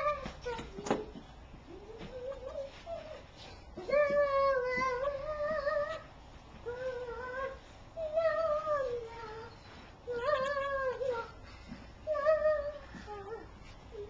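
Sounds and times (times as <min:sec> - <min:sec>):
girl singing in high voice: 0:00.0 - 0:14.0.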